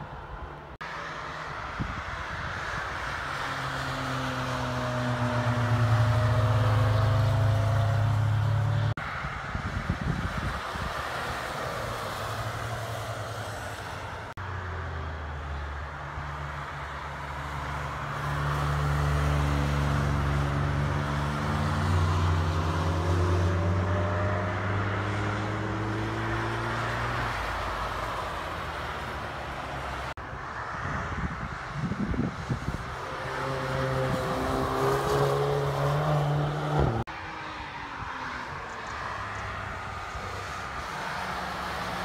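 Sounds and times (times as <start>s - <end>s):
cars driving past at speed: 0.0s - 42.0s.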